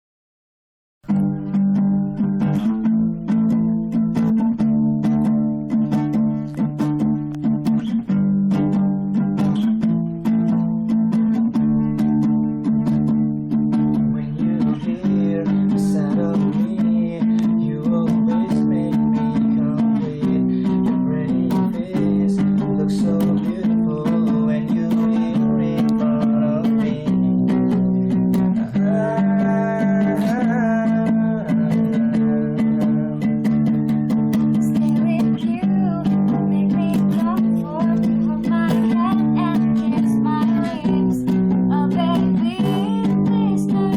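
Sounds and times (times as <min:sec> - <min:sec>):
acoustic guitar chords: 0:01.0 - 0:43.9.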